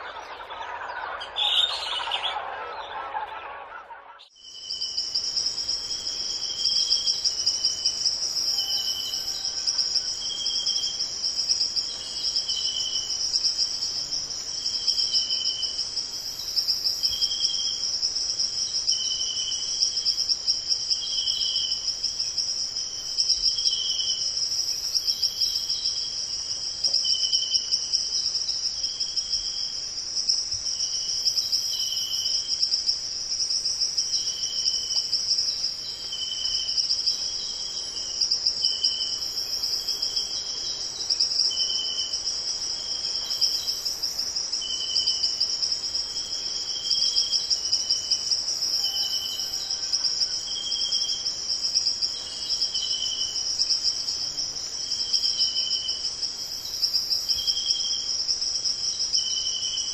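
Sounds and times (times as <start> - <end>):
insect chirps: 0.0 - 2.5, 4.2 - 59.9
insects trilling: 0.0 - 3.3, 4.2 - 59.9.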